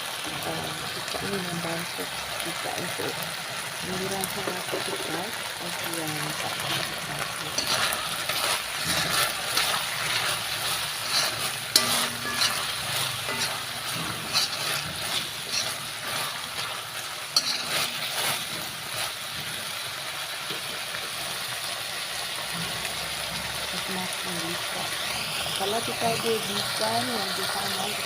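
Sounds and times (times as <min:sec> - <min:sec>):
meat sizzling in a pan: 0:00.0 - 0:28.0.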